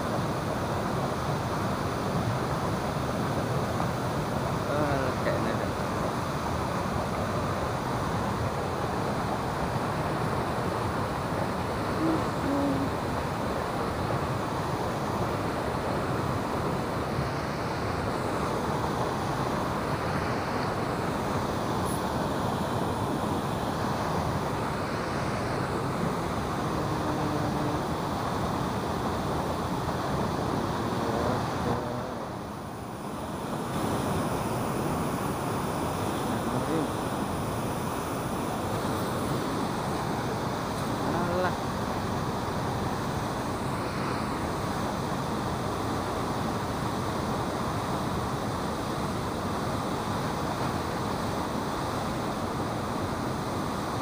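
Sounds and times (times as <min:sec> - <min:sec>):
turbulent river water rushing: 0:00.0 - 0:54.0.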